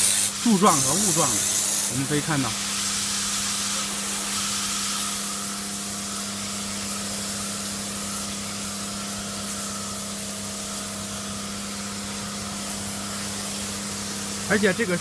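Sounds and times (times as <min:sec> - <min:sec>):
pump electric hum: 0:00.0 - 0:15.0
water spray hissing: 0:00.0 - 0:15.0.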